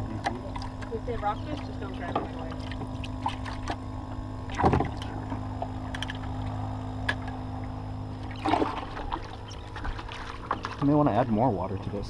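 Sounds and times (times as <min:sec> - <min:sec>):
aerator pump humming: 0:00.0 - 0:12.0.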